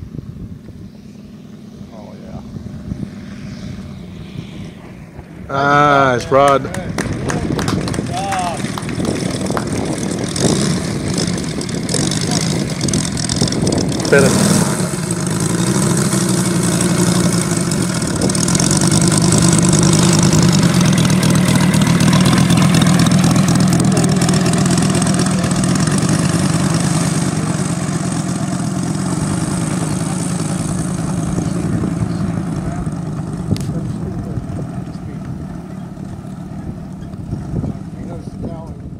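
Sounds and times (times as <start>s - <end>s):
model airplane engine running: 0.1s - 38.9s.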